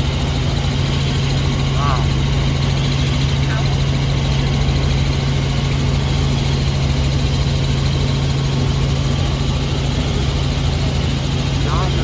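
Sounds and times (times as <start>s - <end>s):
helicopter turbine and rotors: 0.0s - 12.0s.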